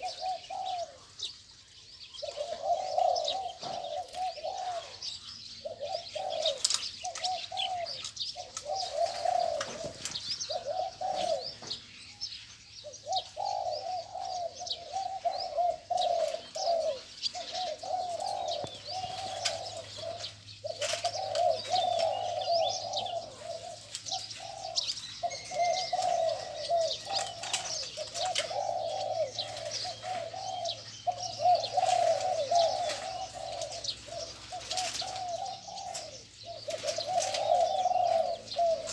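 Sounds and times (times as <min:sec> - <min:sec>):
doves cooing: 0:00.0 - 0:38.9
small birds chirping: 0:00.0 - 0:38.9.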